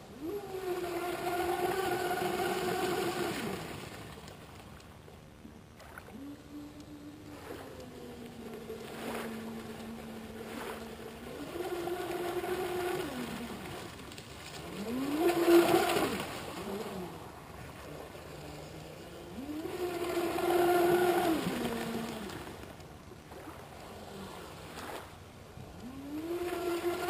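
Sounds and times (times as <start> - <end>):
rc boat motor whine: 0.0 - 27.0.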